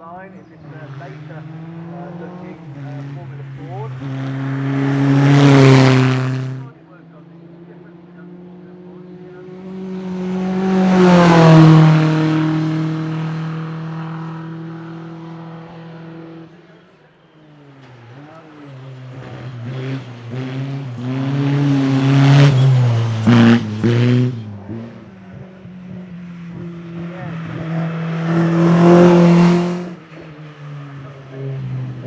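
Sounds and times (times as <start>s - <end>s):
race car engine revving and shifting: 0.0s - 32.0s
race car passing at full throttle: 0.0s - 32.0s.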